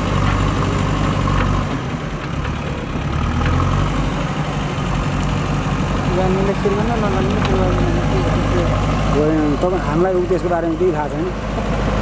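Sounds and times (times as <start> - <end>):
backhoe diesel engine running: 0.0 - 12.0.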